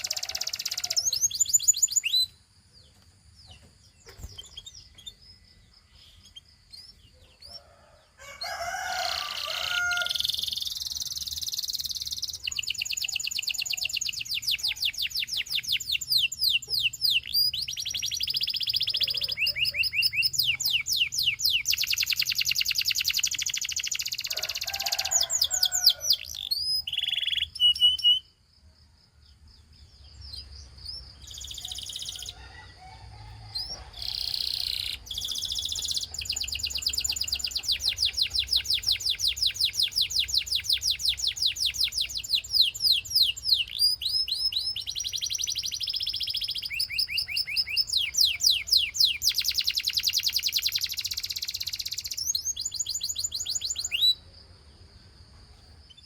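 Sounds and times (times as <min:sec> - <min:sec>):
canary singing trills: 0:00.0 - 0:28.4, 0:29.6 - 0:54.3.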